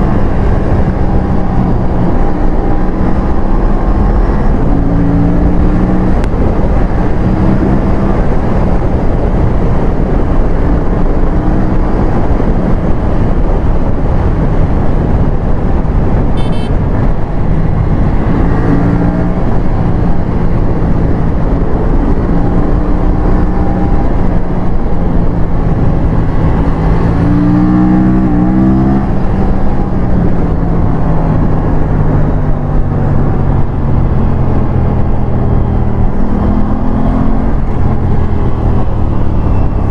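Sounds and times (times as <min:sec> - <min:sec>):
motorcycle engine running: 0:06.0 - 0:39.9.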